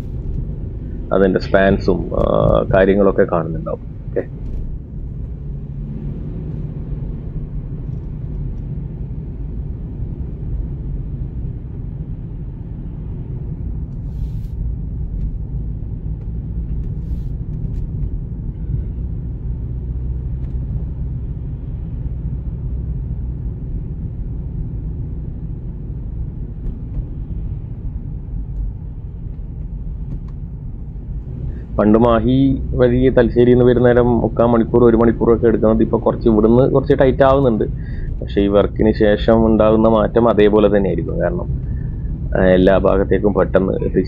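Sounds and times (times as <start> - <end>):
car engine and tyres rumble: 0.0 - 44.0.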